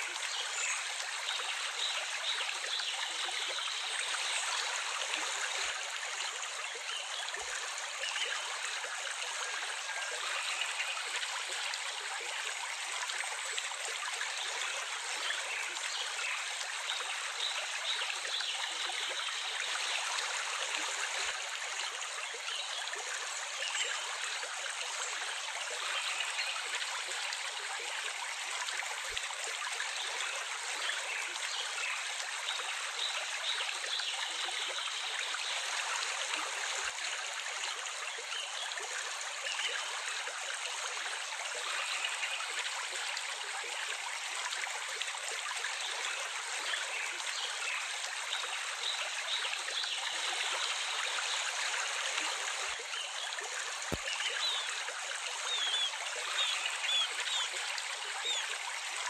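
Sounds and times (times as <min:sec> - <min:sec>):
small stream trickling: 0:00.0 - 0:59.0.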